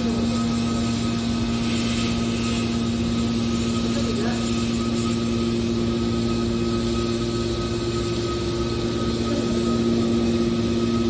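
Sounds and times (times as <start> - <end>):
hydraulic power unit humming: 0.0 - 11.0.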